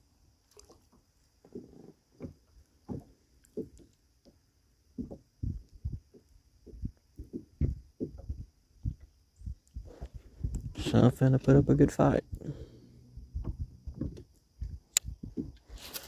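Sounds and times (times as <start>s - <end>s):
dull low knocks and thumps: 1.5s - 15.7s.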